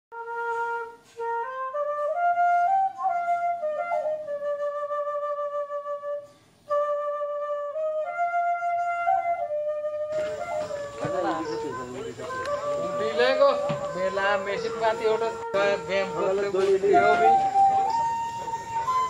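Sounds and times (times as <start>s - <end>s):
solo flute melody: 0.1s - 19.0s.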